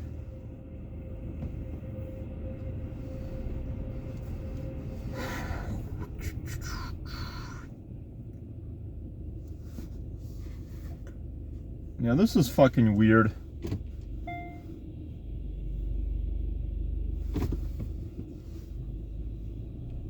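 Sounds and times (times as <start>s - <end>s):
faint steady hum: 0.0s - 19.9s
car engine rumbling: 0.0s - 20.0s.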